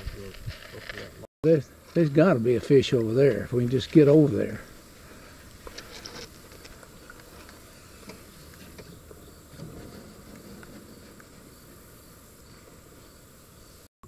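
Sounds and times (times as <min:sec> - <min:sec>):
insects chirping: 0:01.0 - 0:13.9.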